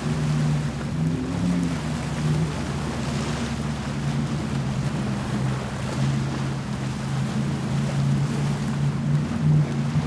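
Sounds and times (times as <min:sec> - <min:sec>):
powerboat engines droning: 0:00.0 - 0:10.0
surf: 0:00.0 - 0:10.0.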